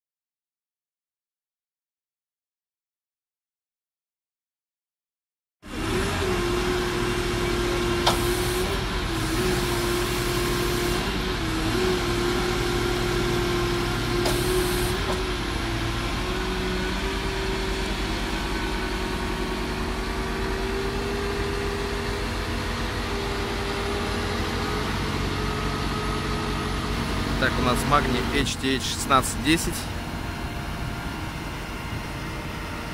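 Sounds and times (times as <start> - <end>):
diesel engine running under load: 5.6 - 32.9
hydraulic whine: 5.7 - 32.9.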